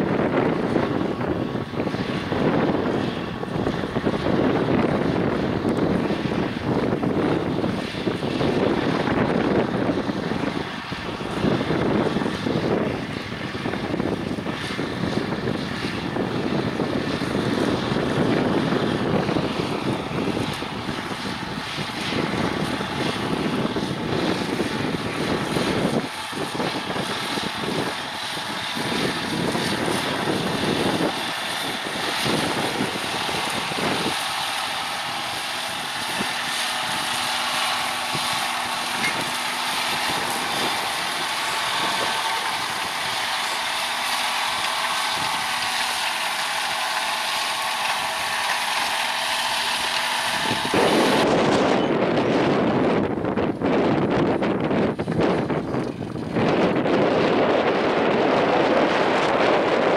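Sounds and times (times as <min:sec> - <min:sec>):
tractor diesel engine running: 0:00.0 - 0:59.9
wind buffeting microphone: 0:00.0 - 0:59.9.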